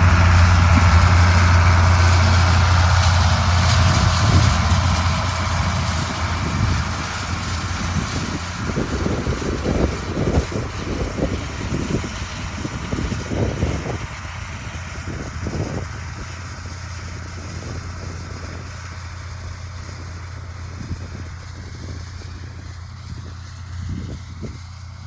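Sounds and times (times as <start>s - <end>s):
rumbling bumps: 0.0s - 24.7s
farm machinery engine droning: 0.0s - 25.0s.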